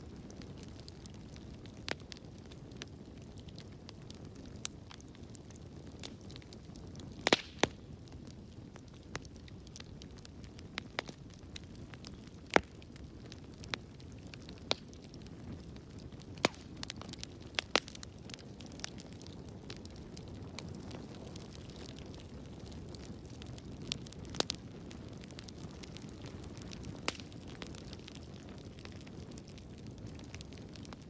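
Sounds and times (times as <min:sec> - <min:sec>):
fire pops and snaps: 0:00.0 - 0:31.0
low fire rumble: 0:00.0 - 0:31.0
wood fire crackling: 0:00.0 - 0:31.0.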